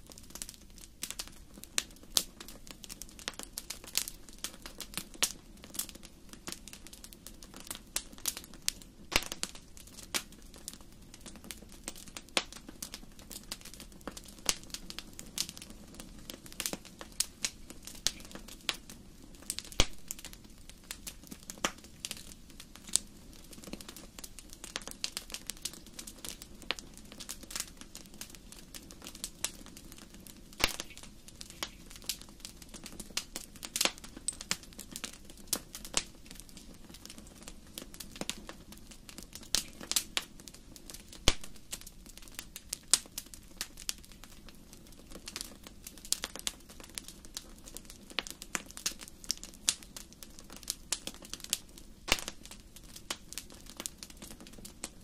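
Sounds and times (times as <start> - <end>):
flames rushing: 0.0 - 54.9
wood fire crackling: 0.0 - 55.0.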